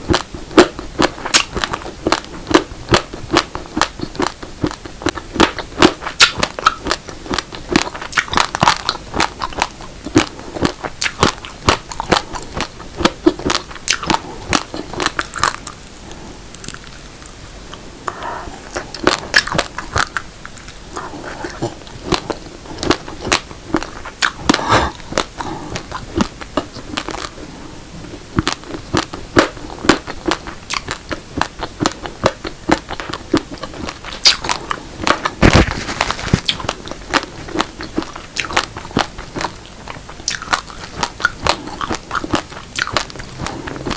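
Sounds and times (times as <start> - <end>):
crunching of raw rice being chewed: 0.0 - 17.8, 18.6 - 43.9.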